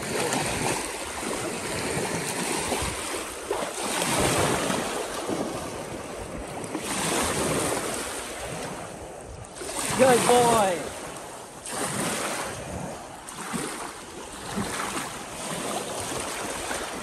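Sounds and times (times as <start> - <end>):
dog paddling in splashing water: 0.0 - 17.0
lapping waves: 0.0 - 17.0
wind on microphone: 0.0 - 17.0.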